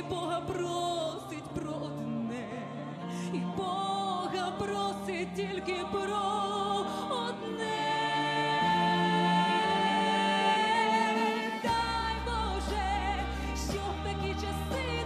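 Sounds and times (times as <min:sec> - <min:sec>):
backing music: 0:00.0 - 0:15.0
woman singing: 0:00.0 - 0:15.0.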